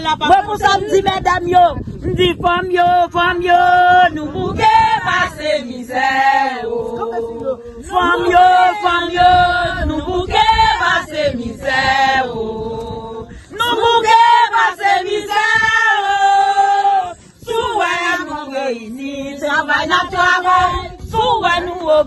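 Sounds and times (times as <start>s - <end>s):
women singing in chorus: 2.3s - 22.0s.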